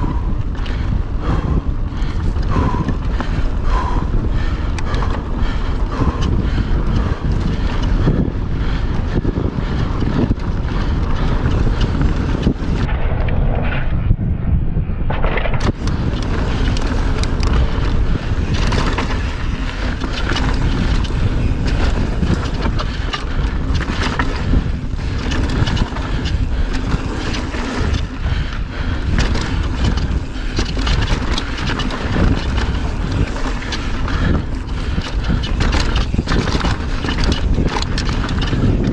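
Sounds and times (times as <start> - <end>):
bike rattling over rough ground: 0.0 - 38.9
bike tyre roar: 0.0 - 38.9
wind noise on microphone: 0.0 - 38.9.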